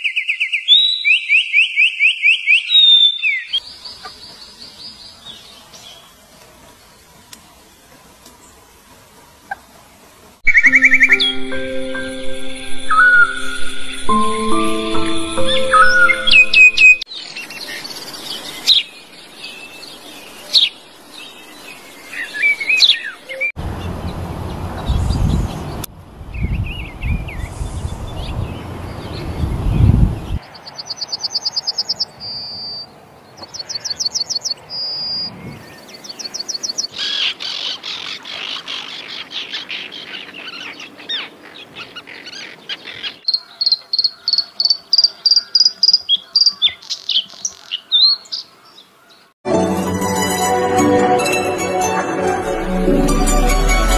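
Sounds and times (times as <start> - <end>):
songbirds singing and calling: 0.0 - 8.8, 9.4 - 12.2, 12.8 - 49.4.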